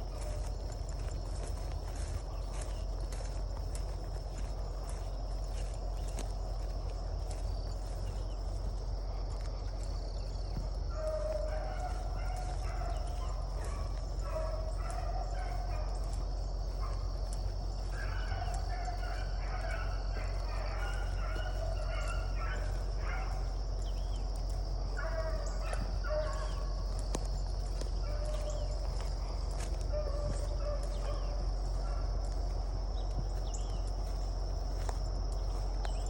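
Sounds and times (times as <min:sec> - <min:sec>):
hounds baying: 0:00.0 - 0:36.0.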